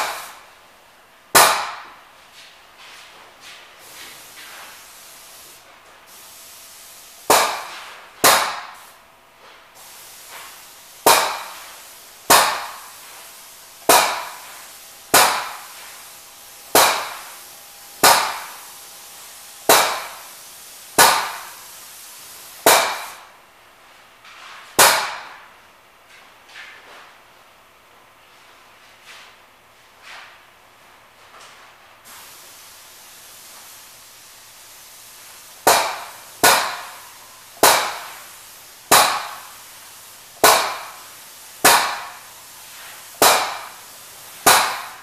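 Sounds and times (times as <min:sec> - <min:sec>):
paint sprayer pump popping and hissing: 0:00.0 - 0:00.5, 0:01.4 - 0:23.3, 0:31.3 - 0:45.0.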